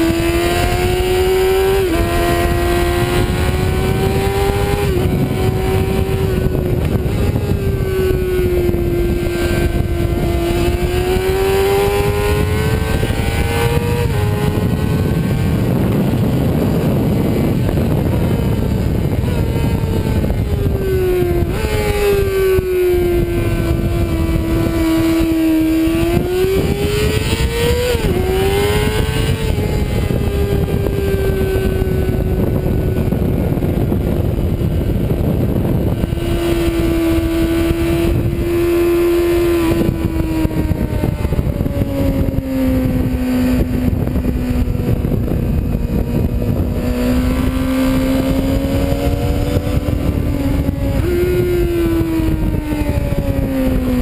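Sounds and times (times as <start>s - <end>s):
motorcycle engine at speed: 0.0s - 54.0s
wind rush on microphone: 0.0s - 54.0s.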